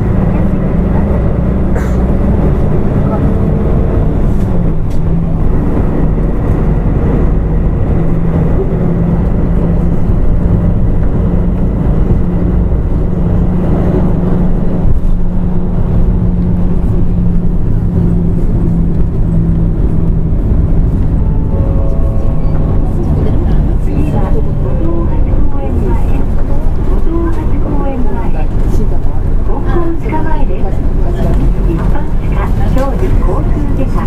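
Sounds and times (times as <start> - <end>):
bus engine drone: 0.0 - 34.0.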